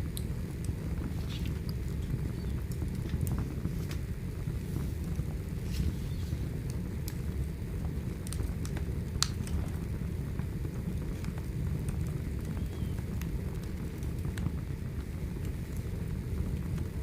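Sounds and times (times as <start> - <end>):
firewood burning: 0.0 - 17.0.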